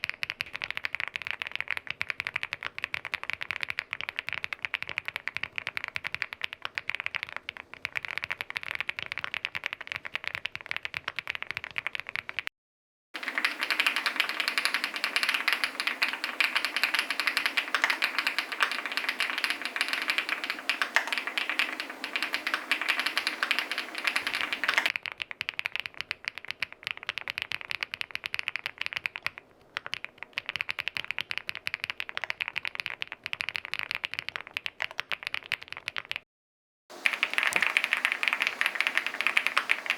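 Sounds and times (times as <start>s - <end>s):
mechanical keyboard typing: 0.0s - 12.5s, 13.2s - 36.2s, 36.9s - 39.9s.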